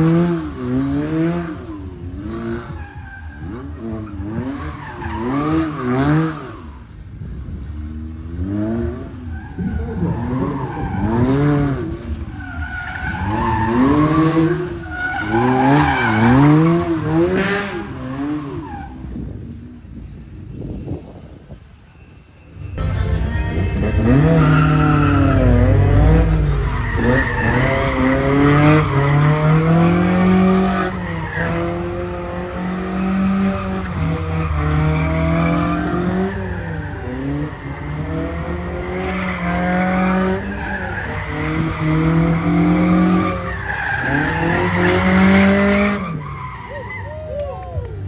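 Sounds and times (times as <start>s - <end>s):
car engine revving: 0.0s - 19.4s, 23.6s - 46.6s
tyres squealing and skidding: 0.6s - 7.1s, 8.4s - 19.5s, 23.6s - 48.0s.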